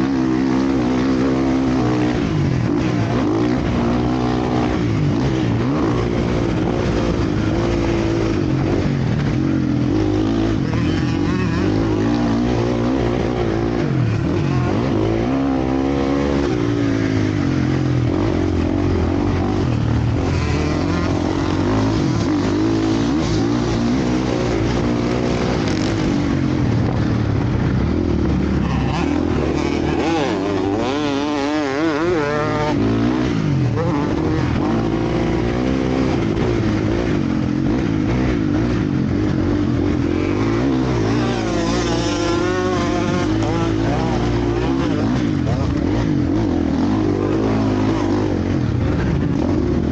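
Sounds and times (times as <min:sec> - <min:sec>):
motocross bikes revving: 0:00.0 - 0:49.9
nearby bike revving: 0:00.0 - 0:49.9.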